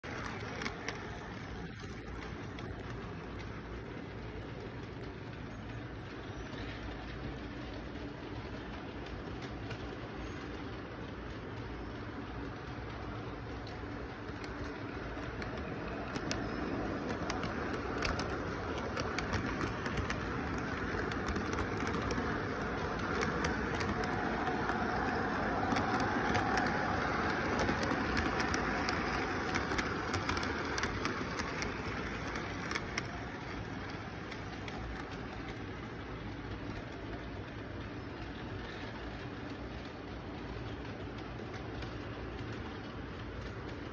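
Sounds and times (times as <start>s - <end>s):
toy train clattering on track: 0.0s - 43.9s.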